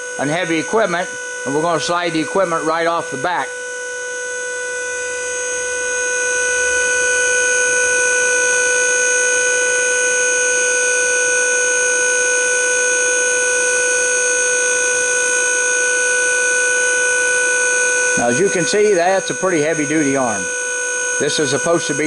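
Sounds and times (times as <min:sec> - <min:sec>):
hydraulic pump whining: 0:00.0 - 0:22.0.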